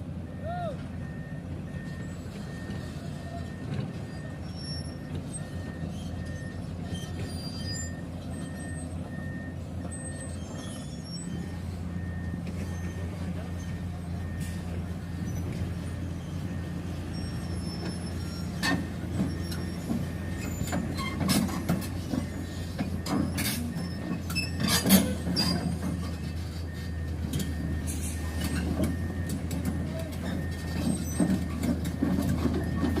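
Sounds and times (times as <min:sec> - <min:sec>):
excavator diesel engine drone: 0:00.0 - 0:33.0
metallic clanks and squeals: 0:01.0 - 0:33.0.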